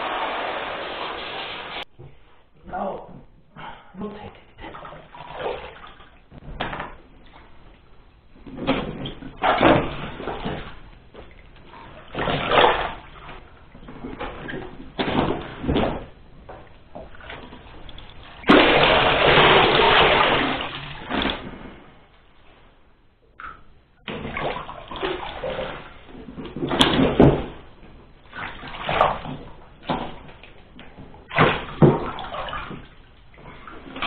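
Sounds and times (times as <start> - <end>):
water sloshing in bathtub: 1.8 - 34.0.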